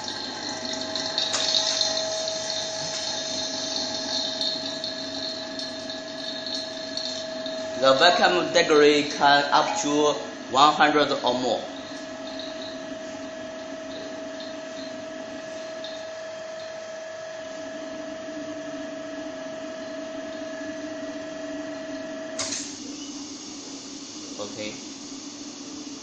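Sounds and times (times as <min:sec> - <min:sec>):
low machine hum: 0:00.0 - 0:26.0
vacuum pump whine: 0:00.0 - 0:26.0.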